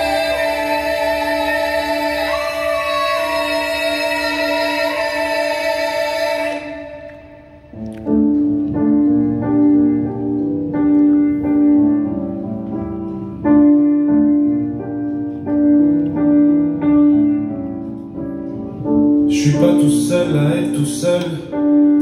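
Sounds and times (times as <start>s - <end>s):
slow keyboard music: 0.0s - 22.0s.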